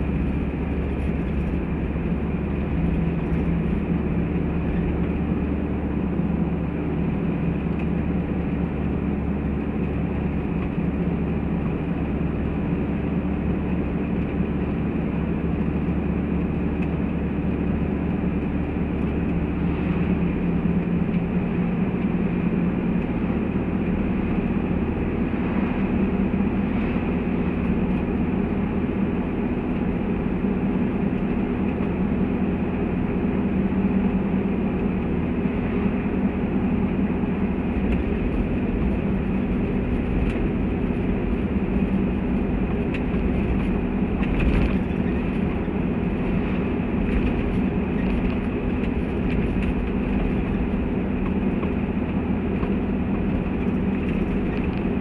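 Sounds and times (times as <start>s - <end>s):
car engine drone: 0.0s - 55.0s
road and tyre noise: 0.0s - 55.0s.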